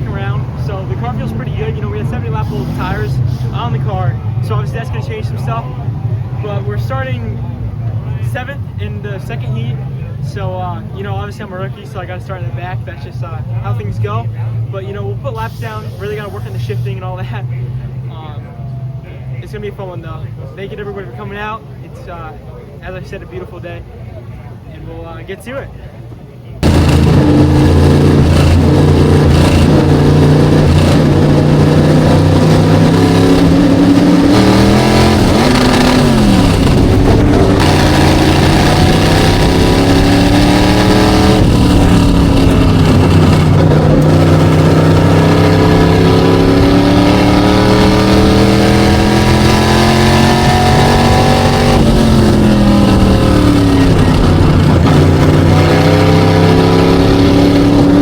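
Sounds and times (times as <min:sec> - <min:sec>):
race car engine revving: 0:00.0 - 0:22.4, 0:26.6 - 0:58.0.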